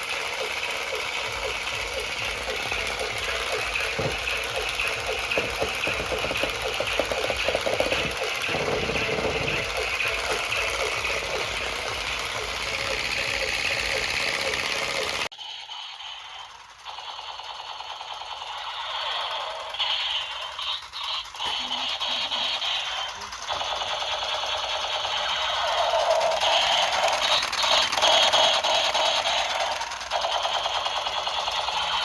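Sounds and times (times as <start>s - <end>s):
small motor buzzing rattle: 0.0s - 32.0s.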